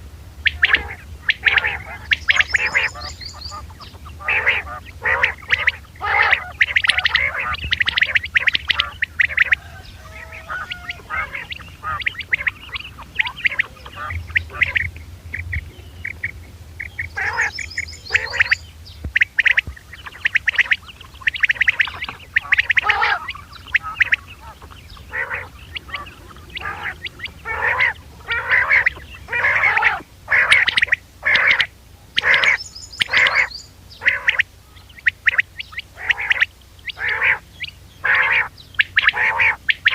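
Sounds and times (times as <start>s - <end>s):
steady low hum: 0.0s - 39.9s
higher thinner bird calls: 0.4s - 39.9s
quail calling: 0.4s - 39.9s.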